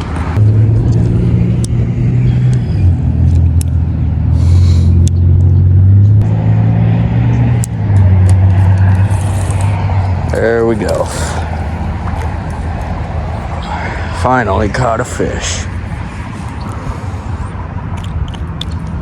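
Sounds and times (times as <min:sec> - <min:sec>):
loud low rumble with hum: 0:00.0 - 0:19.0.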